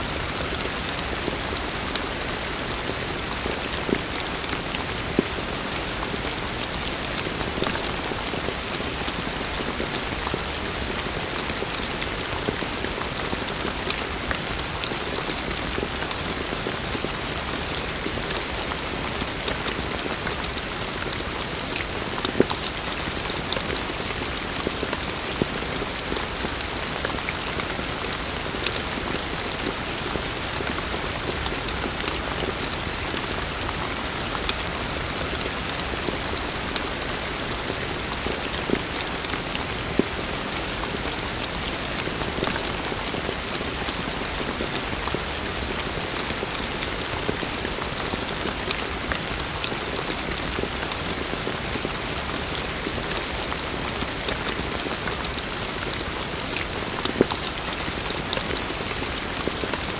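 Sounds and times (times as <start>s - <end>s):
heavy rain: 0.0s - 59.9s
raindrops ticking on surfaces: 0.0s - 59.9s.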